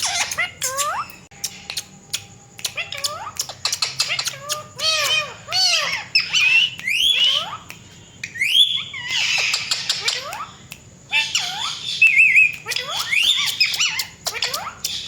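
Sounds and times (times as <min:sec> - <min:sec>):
parakeets calling: 0:00.0 - 0:15.0.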